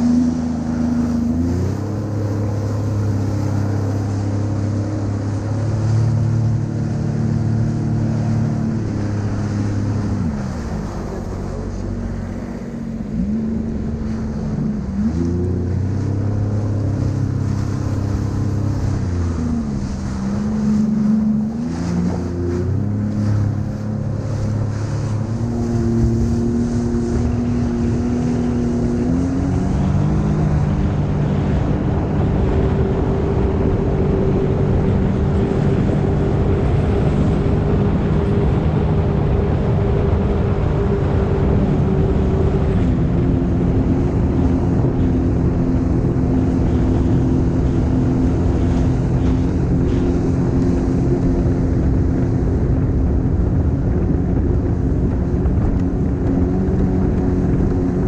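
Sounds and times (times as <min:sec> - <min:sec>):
watercraft engine running: 0:00.0 - 0:58.0
wind noise on microphone: 0:00.0 - 0:58.0.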